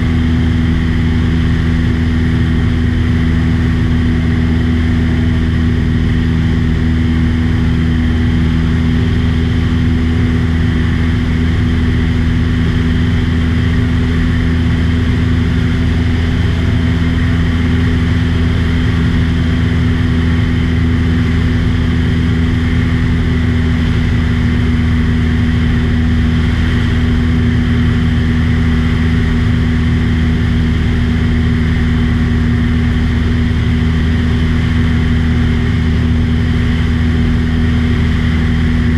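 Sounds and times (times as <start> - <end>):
small aircraft engine droning: 0.0 - 38.9.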